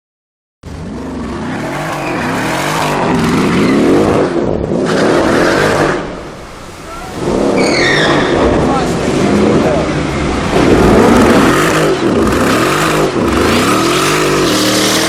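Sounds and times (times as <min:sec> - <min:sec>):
car engine revving: 0:00.6 - 0:15.0.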